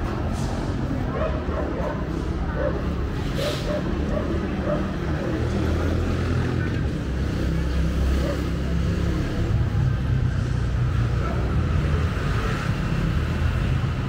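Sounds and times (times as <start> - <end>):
city street noise: 0.0 - 14.0.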